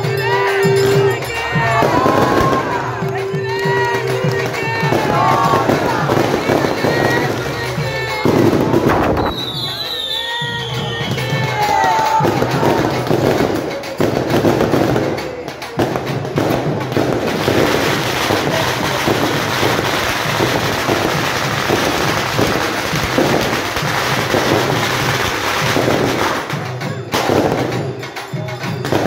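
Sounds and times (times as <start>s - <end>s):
firecrackers crackling: 0.0s - 29.0s.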